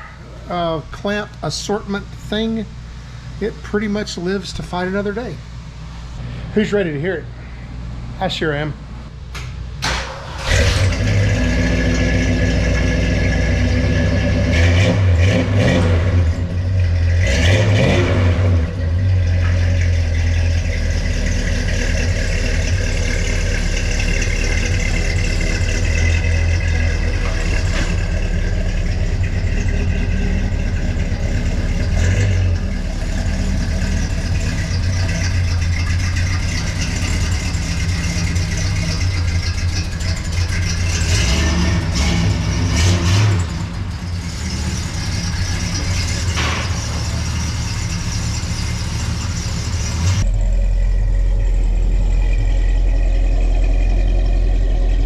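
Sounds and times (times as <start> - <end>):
engine idling and revving: 9.3 - 55.0.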